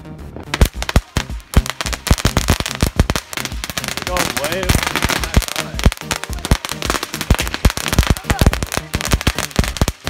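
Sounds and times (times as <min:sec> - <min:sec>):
firework crackling and popping: 0:00.4 - 0:10.0.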